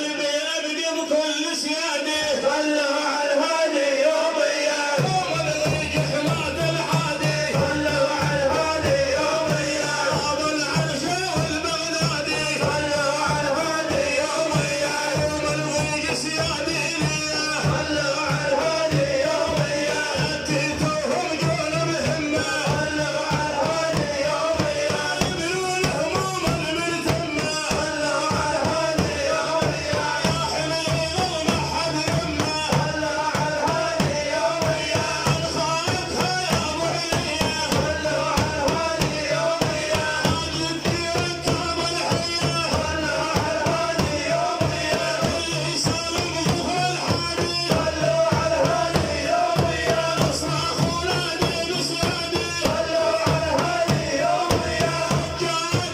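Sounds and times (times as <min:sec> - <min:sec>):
person chanting: 0:00.0 - 0:55.9
fast steady drumming: 0:04.9 - 0:55.9.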